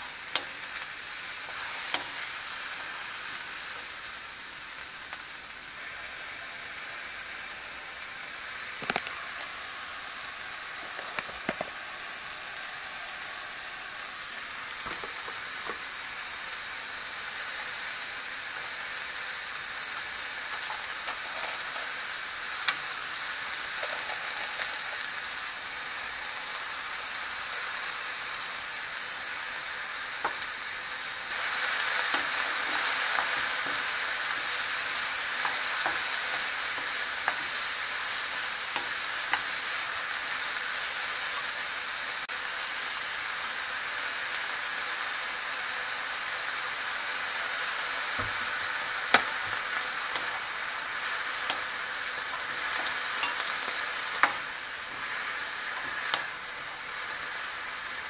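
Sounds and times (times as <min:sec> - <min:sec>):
vegetables sizzling in frying pan: 0:00.0 - 0:58.0.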